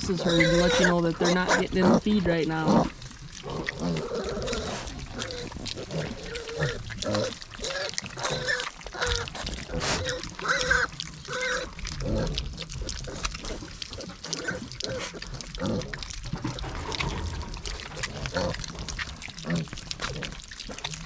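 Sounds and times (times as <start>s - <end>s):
piglets eating clicks: 0.0s - 21.0s
piglets grunting and squealing: 0.0s - 21.0s.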